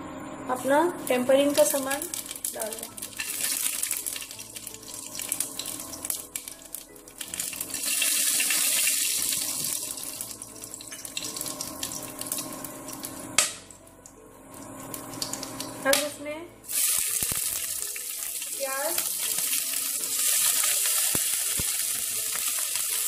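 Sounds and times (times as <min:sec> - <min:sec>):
spices sizzling in hot oil: 0:00.5 - 0:23.0.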